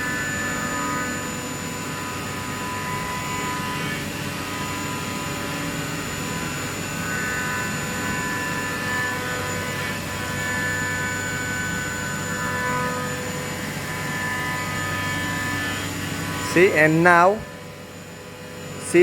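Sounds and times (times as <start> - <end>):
grinder machine whine and hum: 0.0 - 19.0.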